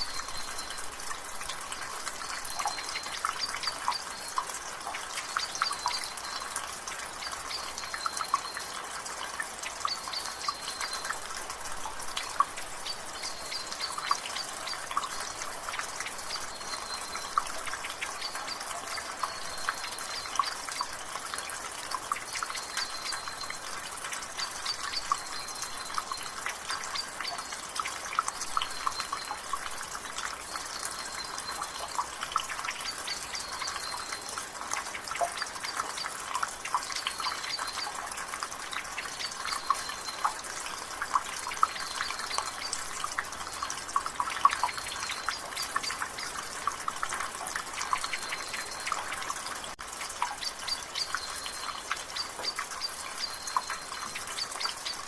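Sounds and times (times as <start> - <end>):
rainwater dripping from gutter: 0.0 - 55.0.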